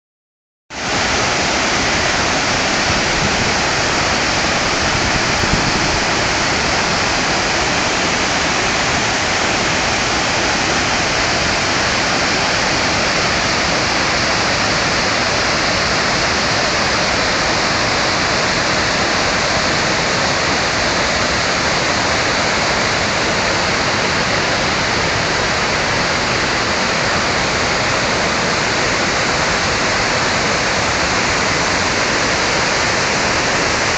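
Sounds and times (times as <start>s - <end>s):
waterfall roaring: 0.7s - 33.9s.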